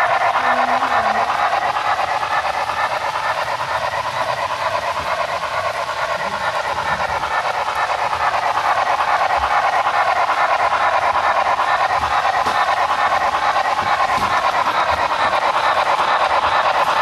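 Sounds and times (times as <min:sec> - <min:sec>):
steam locomotive chuffing with hiss: 0:00.0 - 0:17.0.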